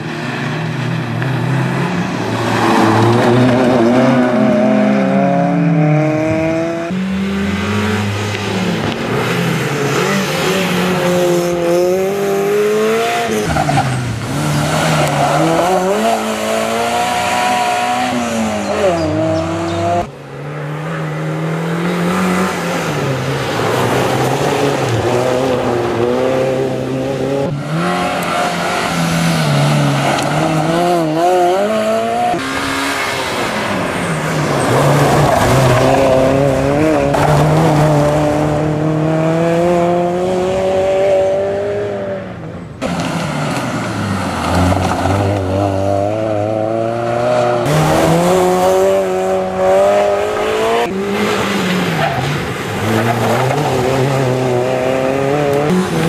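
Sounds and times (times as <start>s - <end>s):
car engine revving hard: 1.4s - 42.2s, 43.4s - 56.0s.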